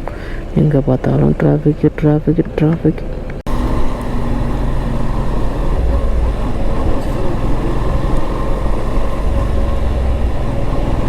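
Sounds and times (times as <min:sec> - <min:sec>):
motorcycle engine humming: 0:00.0 - 0:11.0
road and wind noise: 0:00.0 - 0:11.0.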